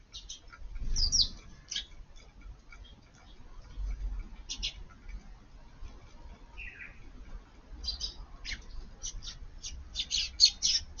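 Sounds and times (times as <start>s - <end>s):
sparrows chirping: 0.0s - 11.0s.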